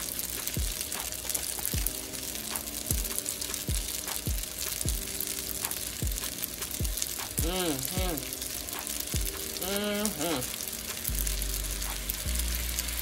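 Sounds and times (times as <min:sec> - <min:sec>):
music with bass-drum beat: 0:00.0 - 0:13.0
noodles sizzling in pan: 0:00.0 - 0:13.0.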